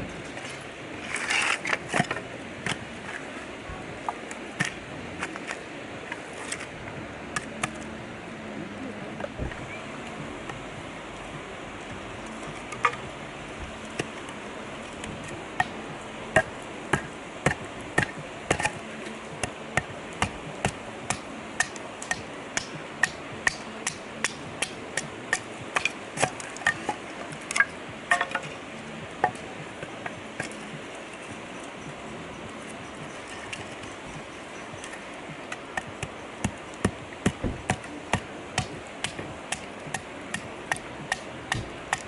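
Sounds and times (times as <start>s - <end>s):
river rushing: 0.0s - 42.0s.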